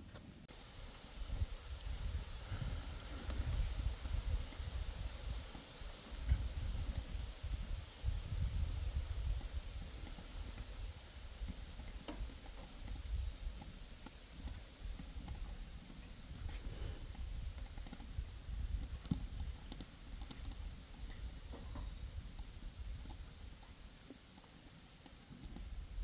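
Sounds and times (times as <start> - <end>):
wood stove low rumble: 0.0 - 26.0
food frying crackles and pops: 0.4 - 26.0.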